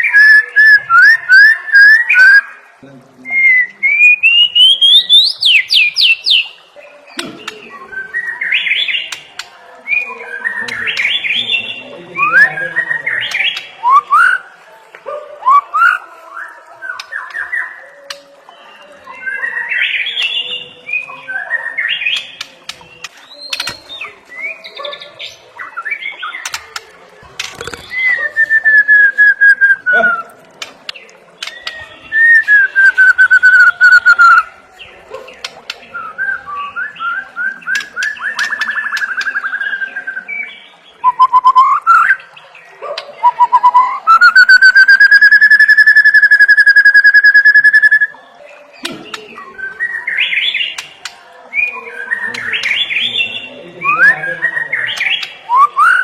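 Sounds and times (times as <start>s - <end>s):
songbird singing whistles and trills: 0.0s - 2.6s, 3.2s - 9.2s, 9.8s - 14.4s, 15.4s - 26.6s, 27.7s - 30.3s, 31.0s - 34.5s, 35.4s - 50.9s, 51.5s - 56.0s.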